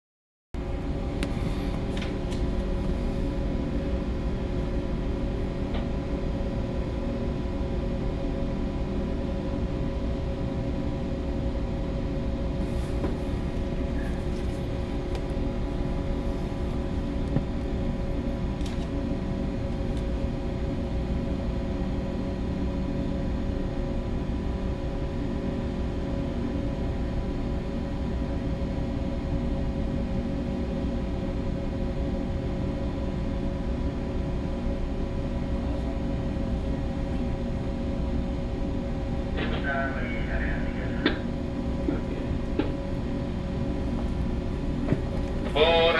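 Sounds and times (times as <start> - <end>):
ship machinery drone: 0.6 - 45.9.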